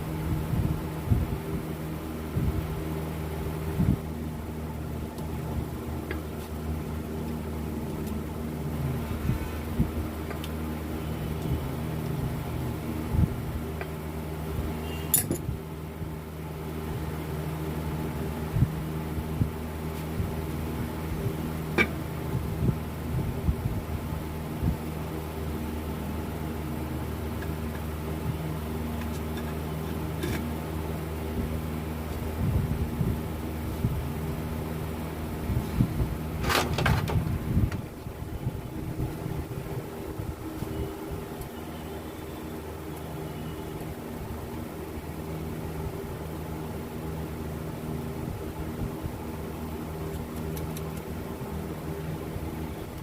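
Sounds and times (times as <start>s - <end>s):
mechanical hum: 0.0s - 53.0s.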